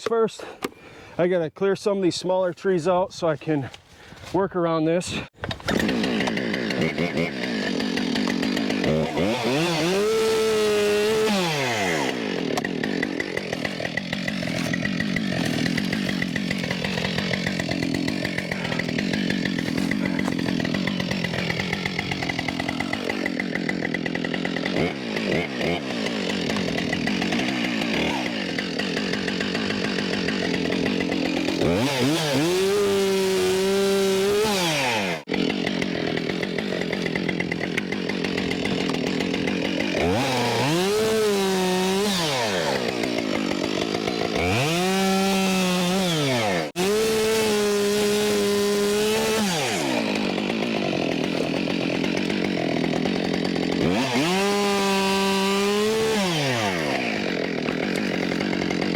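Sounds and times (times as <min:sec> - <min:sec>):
chainsaw cutting and revving: 0:05.0 - 0:58.9.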